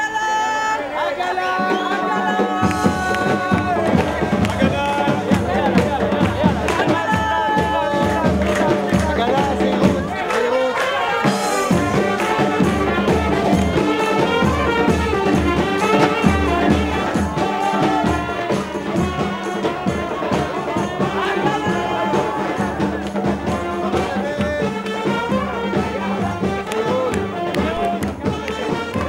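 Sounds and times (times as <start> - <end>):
brass band playing: 1.0 - 29.0.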